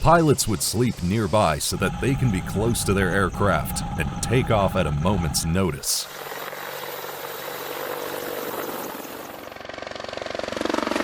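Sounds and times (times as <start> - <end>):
helicopter engine noise: 0.0 - 10.8
helicopter rotor beat: 0.0 - 10.8.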